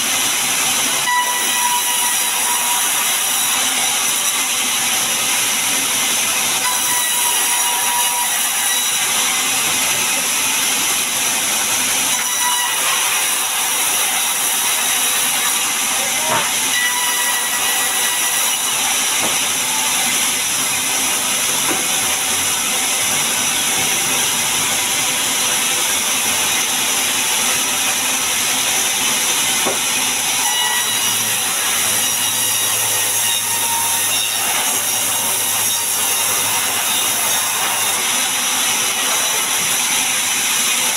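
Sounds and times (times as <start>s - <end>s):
band saw whirring: 0.0s - 40.9s.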